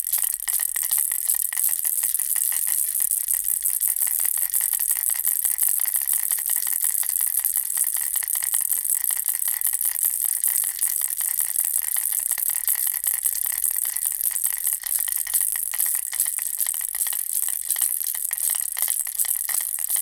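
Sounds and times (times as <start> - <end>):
baby rattle shaken: 0.0 - 20.0.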